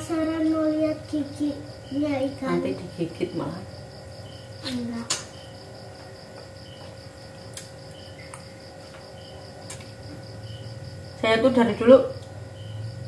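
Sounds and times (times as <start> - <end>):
crickets chirping: 0.0 - 13.0
steady low hum: 0.0 - 13.0
insect call repeating: 0.1 - 13.0.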